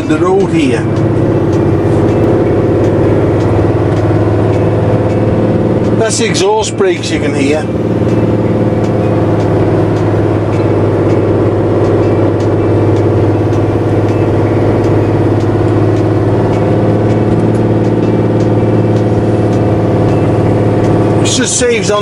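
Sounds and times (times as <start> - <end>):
truck exhaust brake drone: 0.0 - 22.0.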